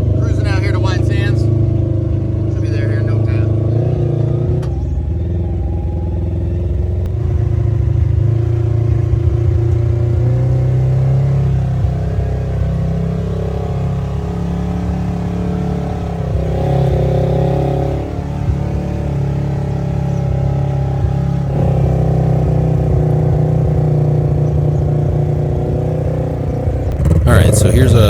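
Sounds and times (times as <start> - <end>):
utility vehicle engine running: 0.0 - 28.0.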